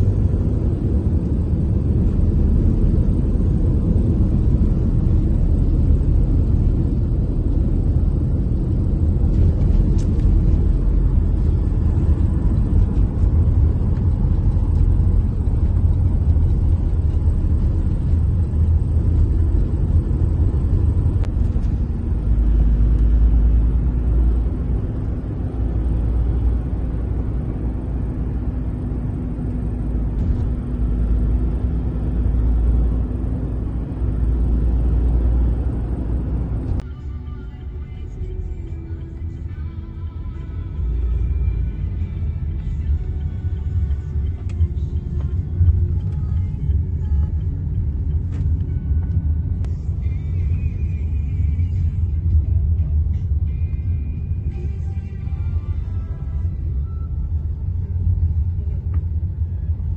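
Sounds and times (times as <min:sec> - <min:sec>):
car cabin road and engine rumble: 0:00.0 - 0:59.9
steady low hum: 0:00.0 - 0:59.9.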